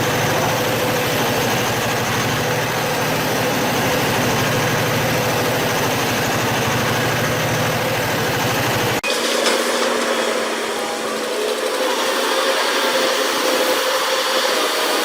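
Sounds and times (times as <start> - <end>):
heavy machinery engine pulsing: 0.0 - 15.0
thin machine noise: 0.0 - 15.0.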